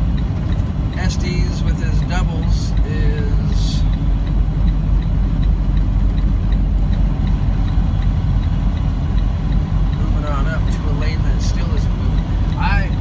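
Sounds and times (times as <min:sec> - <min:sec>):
truck rumble on tire chains: 0:00.0 - 0:13.0
faint regular tick: 0:00.1 - 0:13.0.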